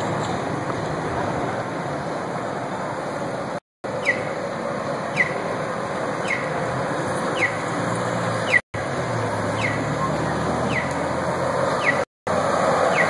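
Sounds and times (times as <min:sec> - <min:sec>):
outdoor street noise: 0:00.0 - 0:13.0.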